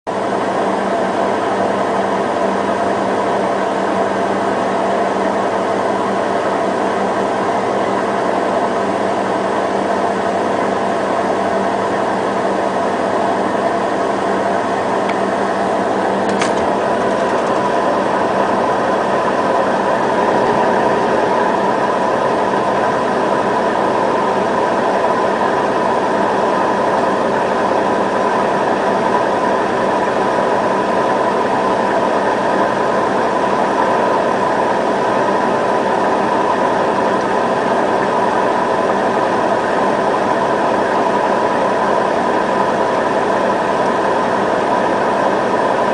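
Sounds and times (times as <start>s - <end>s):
washing machine spinning: 0.1s - 45.9s.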